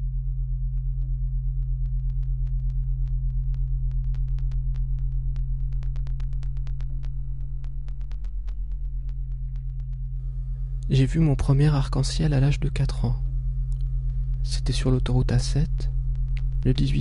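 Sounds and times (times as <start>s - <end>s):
pulsing low electrical hum: 0.0s - 17.0s
sharp crackling clicks: 1.8s - 17.0s.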